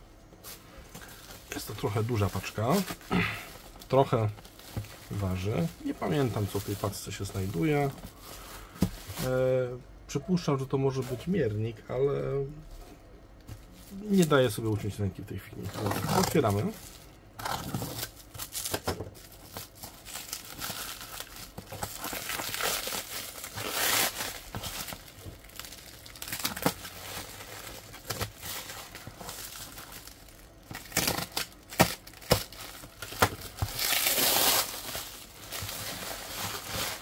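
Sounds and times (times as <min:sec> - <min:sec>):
plastic bag crinkling and rustling: 0:00.4 - 0:09.6, 0:13.5 - 0:37.0.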